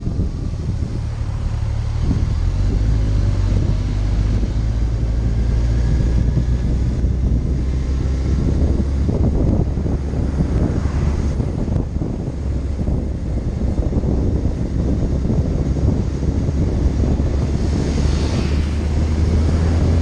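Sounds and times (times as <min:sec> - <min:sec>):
vehicle engine droning: 0:00.0 - 0:20.0
wind buffeting microphone: 0:00.0 - 0:20.0.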